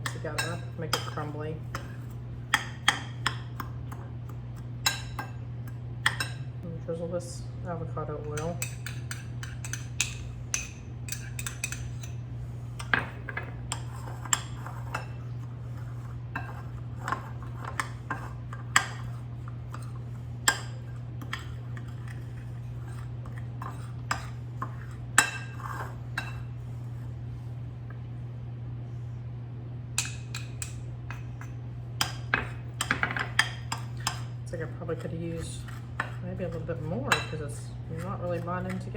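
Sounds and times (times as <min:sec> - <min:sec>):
spoon scraping a bowl: 0:00.1 - 0:06.3, 0:08.4 - 0:12.2, 0:12.8 - 0:27.1, 0:30.3 - 0:38.9.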